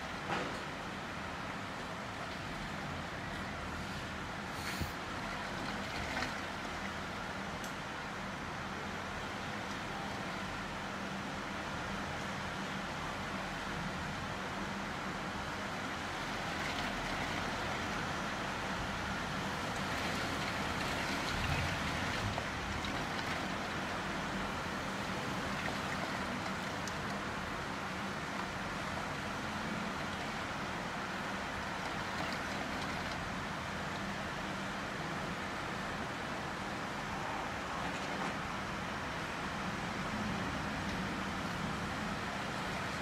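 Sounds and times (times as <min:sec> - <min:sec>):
heavy rain through a window: 0:00.0 - 0:43.0.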